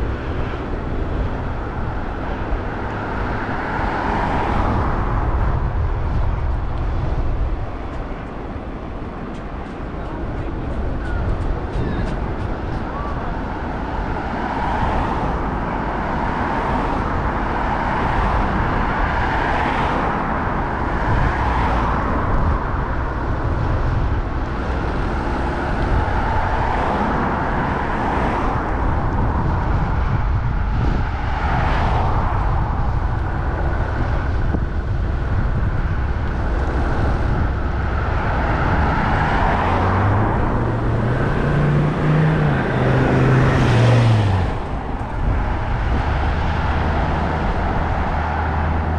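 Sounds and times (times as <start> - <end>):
vehicle engine and road noise: 0.0 - 48.9.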